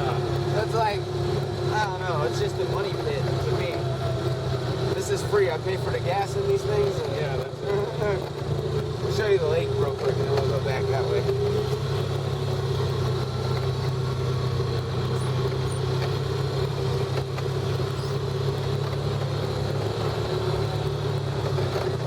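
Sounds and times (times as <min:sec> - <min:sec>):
off-road vehicle engine running: 0:00.0 - 0:22.0.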